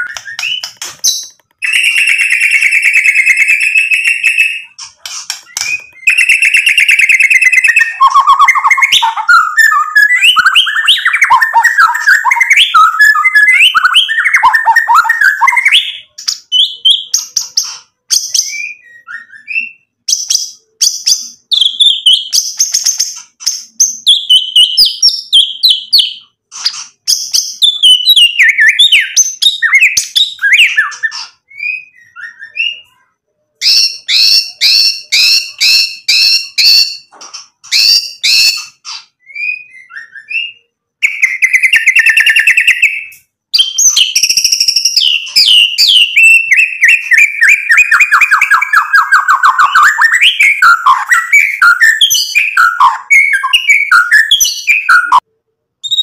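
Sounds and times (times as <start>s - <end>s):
songbird singing whistled phrases: 0.0s - 56.0s.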